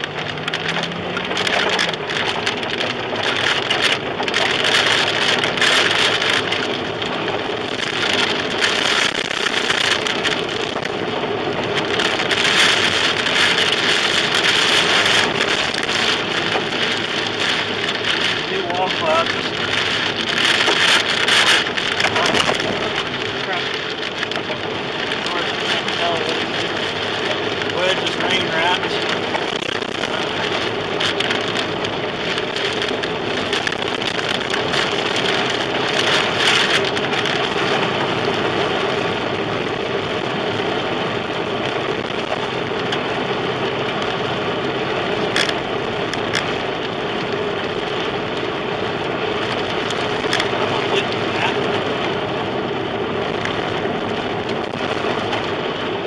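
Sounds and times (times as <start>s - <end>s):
wind and rain buffeting a car: 0.0s - 56.0s.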